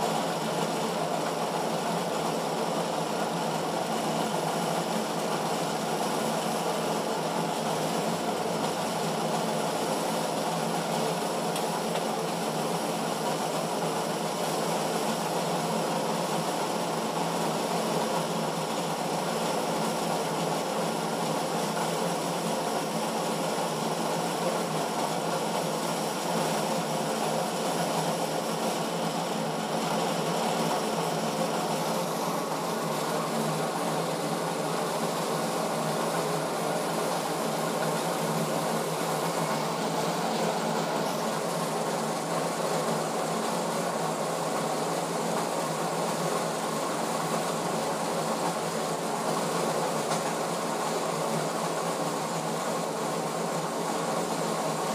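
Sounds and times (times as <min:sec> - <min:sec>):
test bench mechanical hum: 0:00.0 - 0:54.9.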